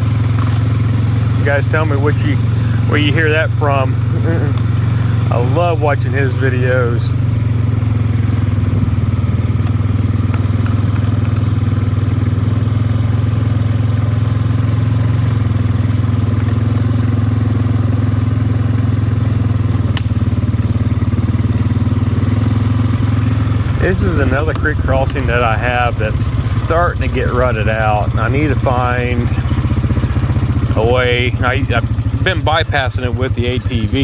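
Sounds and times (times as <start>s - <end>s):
atv engine droning: 0.0s - 34.0s.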